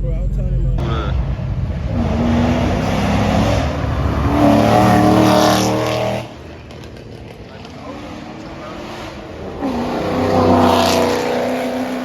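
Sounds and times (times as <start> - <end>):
car engine revving hard: 0.8 - 6.7, 7.7 - 12.0.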